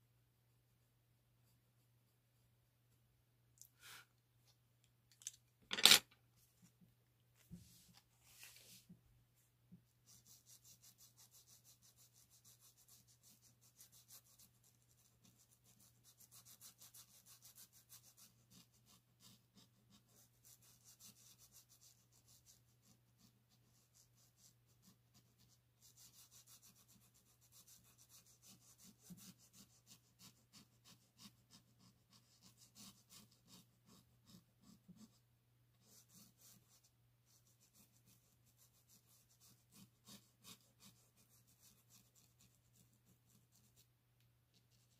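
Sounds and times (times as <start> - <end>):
pencil scratching on paper: 0.7 - 2.6, 9.8 - 43.9, 44.5 - 44.9.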